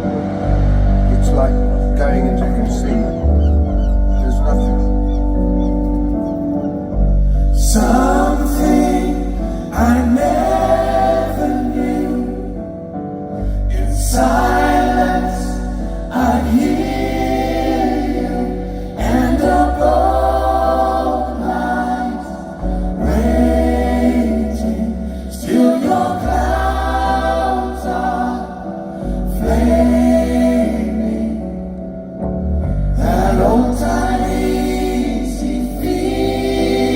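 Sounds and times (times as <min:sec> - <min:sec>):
long held bass notes: 0:00.0 - 0:36.9
voices singing in harmony: 0:00.0 - 0:36.9.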